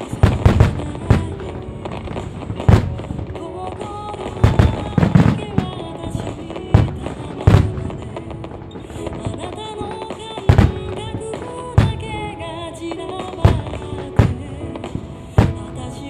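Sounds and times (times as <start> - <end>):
fireworks bursting with sharp booms: 0.0 - 16.0
music over loudspeakers: 0.0 - 16.0.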